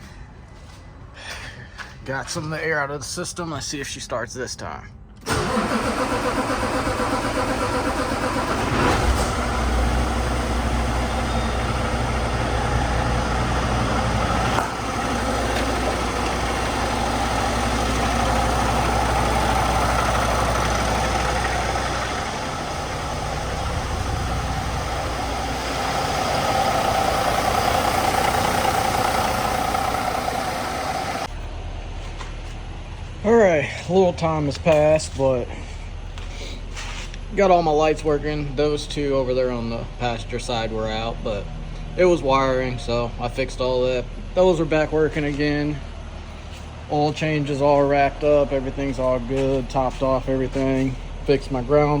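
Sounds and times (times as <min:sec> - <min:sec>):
diesel engine cranking and idling: 0:05.2 - 0:52.0.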